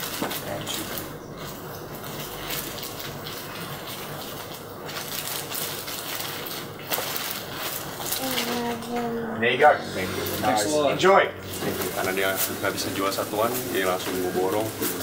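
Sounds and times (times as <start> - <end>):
plastic bag rustling: 0.0 - 9.2, 9.9 - 10.7, 11.4 - 15.0.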